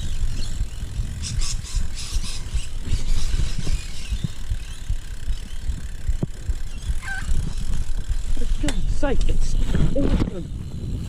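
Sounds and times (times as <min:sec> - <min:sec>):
bike scraping: 0:00.0 - 0:11.0
bike tyres rolling: 0:00.0 - 0:11.0.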